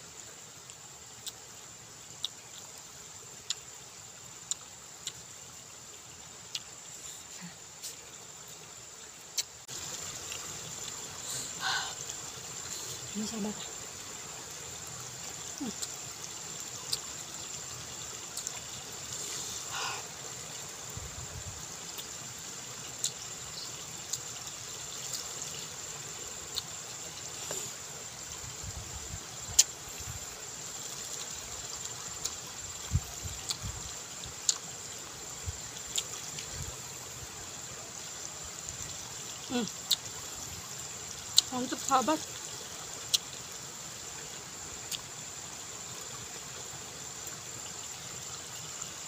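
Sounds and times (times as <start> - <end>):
outdoor hiss: 0.0 - 49.0.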